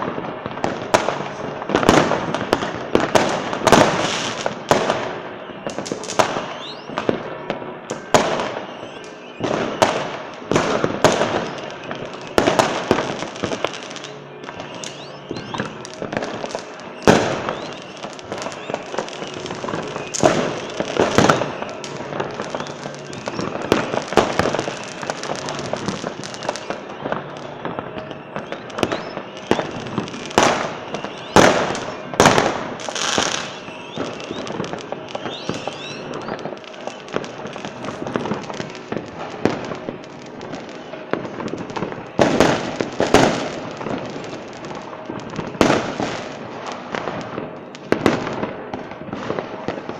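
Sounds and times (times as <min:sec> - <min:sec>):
firework crackle: 0:00.0 - 0:49.9
firework shells bursting: 0:07.9 - 0:49.9.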